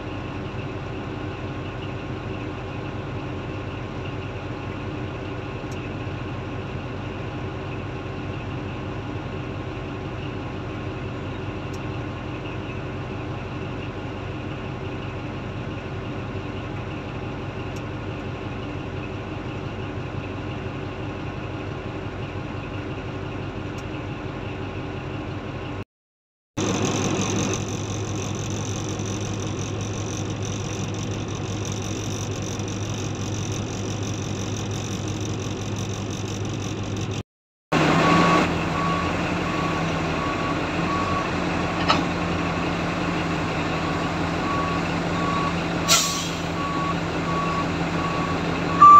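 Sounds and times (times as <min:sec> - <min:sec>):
heavy diesel engines running: 0:00.0 - 0:25.8, 0:26.6 - 0:48.9.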